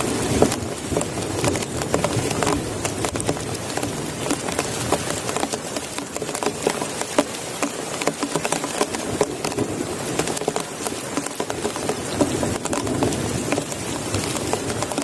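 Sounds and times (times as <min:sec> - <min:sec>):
heavy rain hissing: 0:00.0 - 0:15.0
raindrops tapping on surface: 0:00.0 - 0:15.0.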